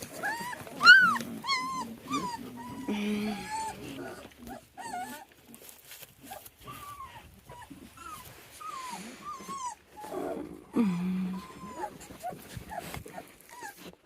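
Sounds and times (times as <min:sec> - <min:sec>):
puppies whining and squeaking: 0:00.0 - 0:14.0.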